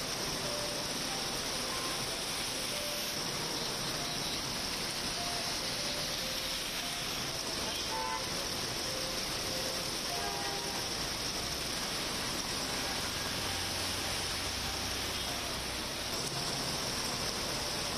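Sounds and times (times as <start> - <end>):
heavy rain on a road: 0.0 - 17.9.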